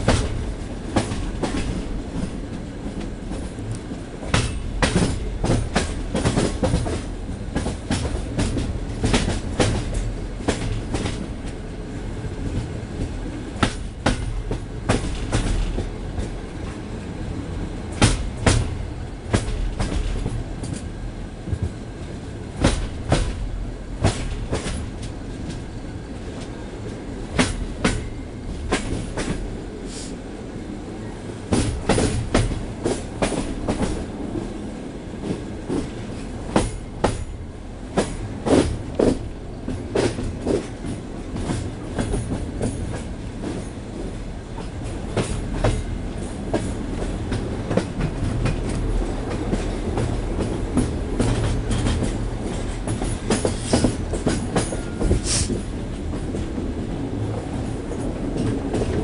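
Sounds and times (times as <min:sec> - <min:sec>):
wheels clacking on rail joints: 0:00.0 - 0:11.7, 0:12.4 - 0:17.0, 0:17.6 - 0:30.0, 0:31.4 - 0:59.0
train wheels rumbling on rail: 0:00.0 - 0:59.0.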